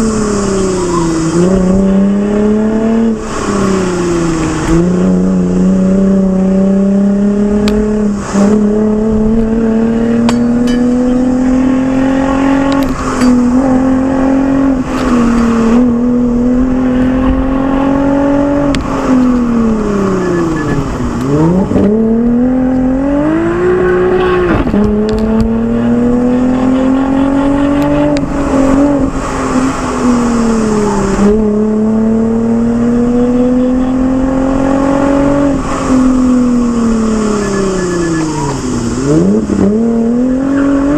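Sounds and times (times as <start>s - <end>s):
car exhaust accelerating hard: 0.0s - 40.9s.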